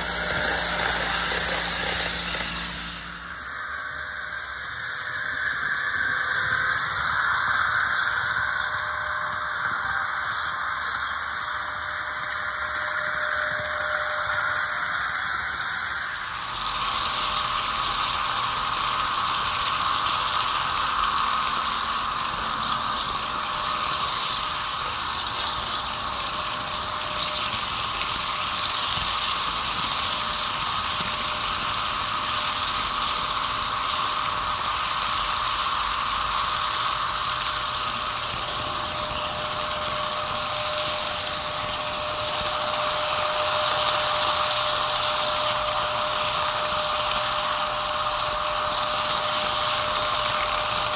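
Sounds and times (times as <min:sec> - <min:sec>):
model train motors whirring: 0:00.0 - 0:50.9
thin steady whine: 0:00.0 - 0:50.9.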